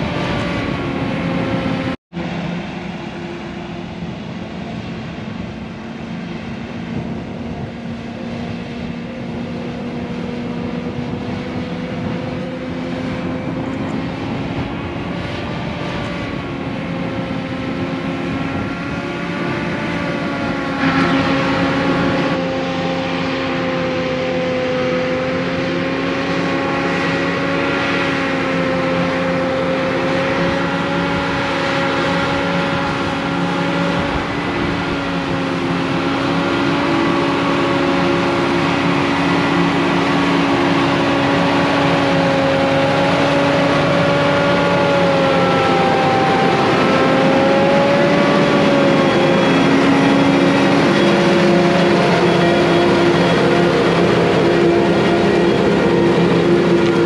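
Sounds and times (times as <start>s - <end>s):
farm machinery diesel drone: 0.0s - 57.0s.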